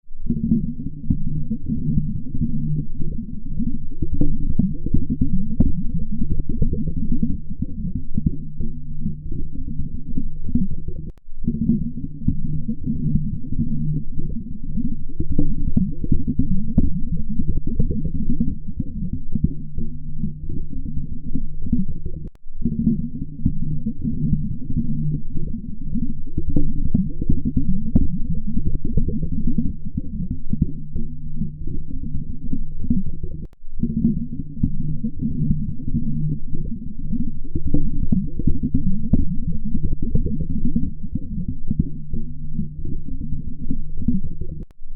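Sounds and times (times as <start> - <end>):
muffled gurgling voice rumble: 0.1 - 44.9.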